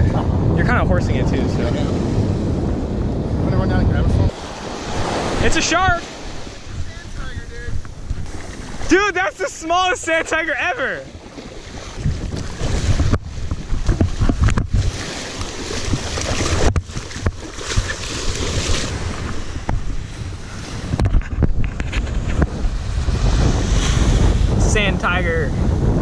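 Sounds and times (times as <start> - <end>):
breaking surf: 0.0 - 26.0
wind buffeting microphone: 0.0 - 26.0.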